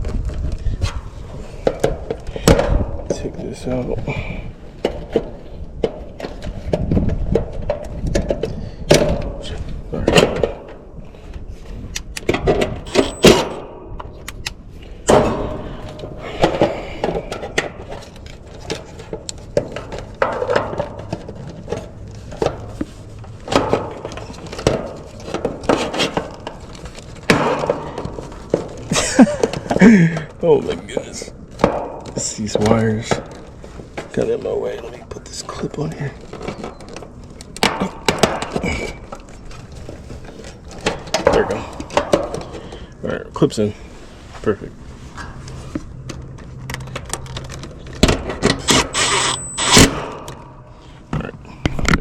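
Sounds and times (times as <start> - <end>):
hands handling wiring: 4.6 - 52.0.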